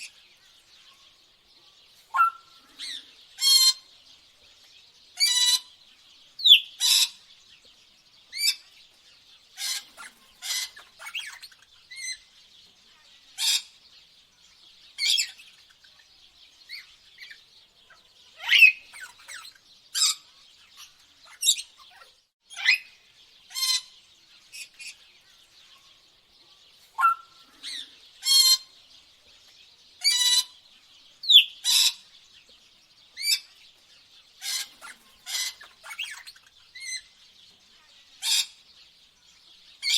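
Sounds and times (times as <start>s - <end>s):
birds chirping sharply: 0.0s - 39.9s
faint background bird chorus: 0.0s - 39.9s.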